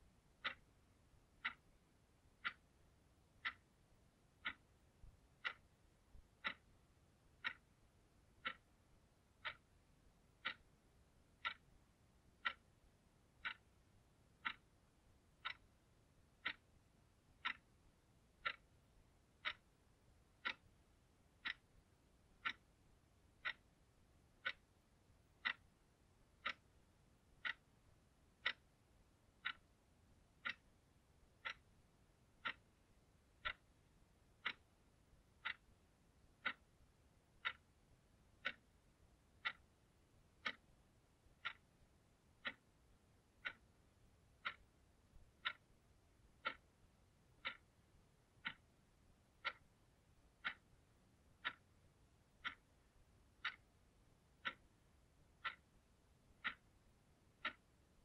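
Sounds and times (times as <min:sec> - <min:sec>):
alarm clock ticking: 0:00.1 - 0:58.0.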